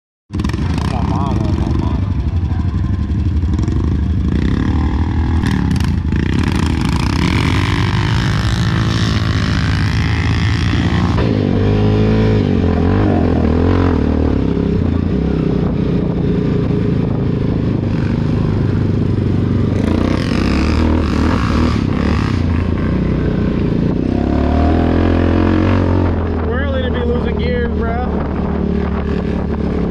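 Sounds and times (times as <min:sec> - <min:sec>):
atv engine revving: 0:00.3 - 0:29.9.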